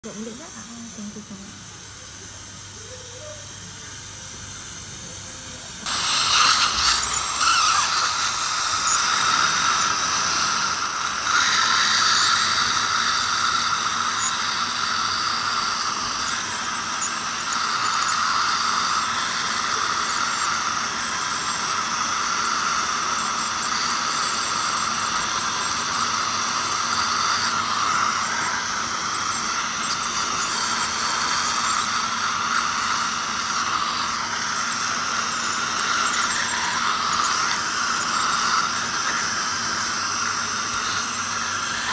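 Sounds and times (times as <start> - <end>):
ultrasonic dental scaler: 0.0 - 41.9
saliva ejector hissing: 5.8 - 41.9.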